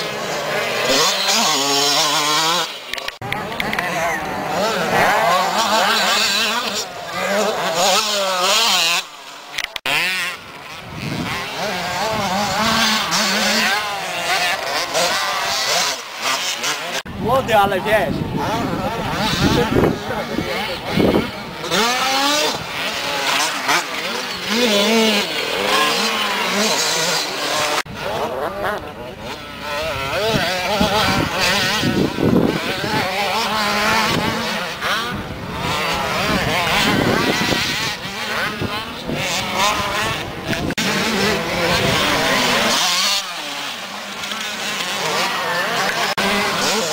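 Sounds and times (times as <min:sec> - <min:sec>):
motorcycle engines revving: 0:00.0 - 0:46.9.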